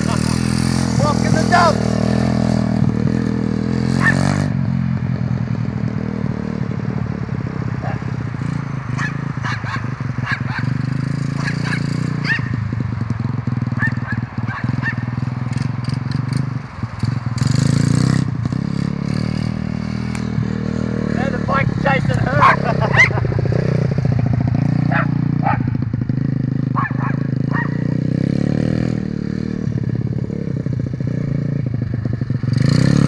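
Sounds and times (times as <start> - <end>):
motorbike engine revving: 0.0 - 33.0.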